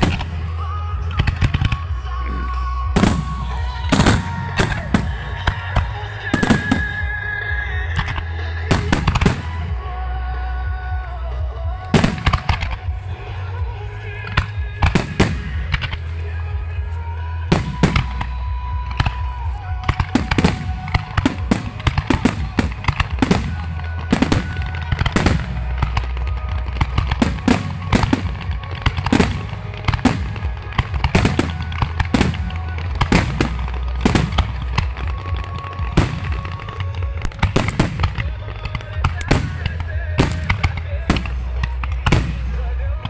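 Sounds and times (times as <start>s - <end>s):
firework bangs and crackles: 0.0s - 43.0s.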